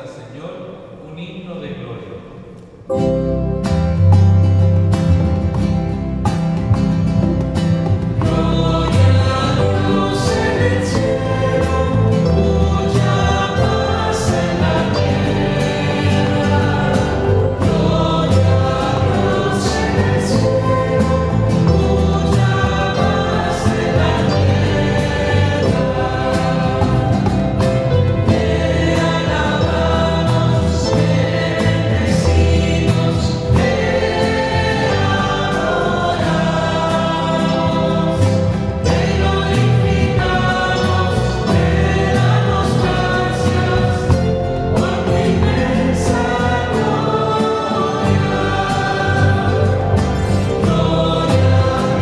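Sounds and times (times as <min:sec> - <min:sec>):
keyboard accompaniment: 0:02.3 - 0:52.0
choir singing worship song: 0:06.6 - 0:52.0.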